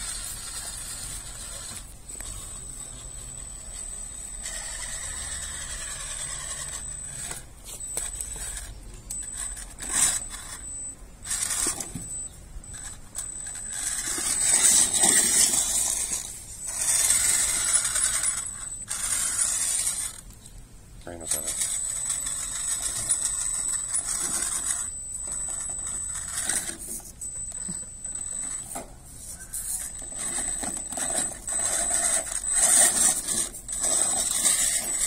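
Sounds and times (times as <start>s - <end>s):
rc car drivetrain whining: 0.0s - 20.4s, 21.1s - 35.0s.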